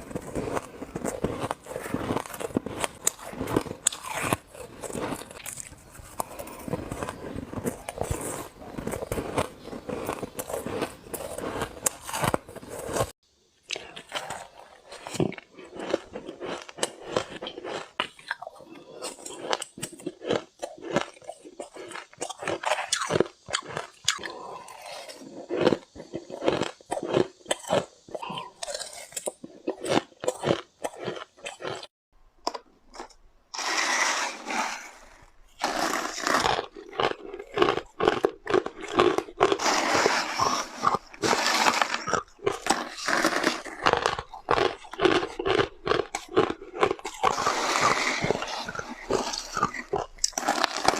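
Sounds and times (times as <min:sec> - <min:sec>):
ice being chewed: 0:00.0 - 0:31.9, 0:32.5 - 0:50.9.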